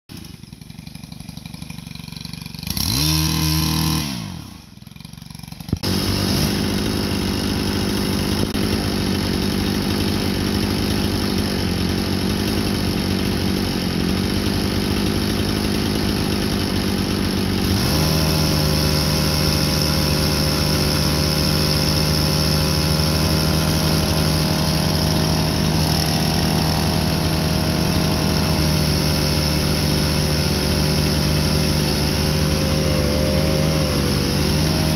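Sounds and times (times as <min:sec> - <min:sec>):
tractor engine running: 0:00.1 - 0:04.0, 0:04.6 - 0:34.9
chainsaw revving: 0:00.1 - 0:34.9.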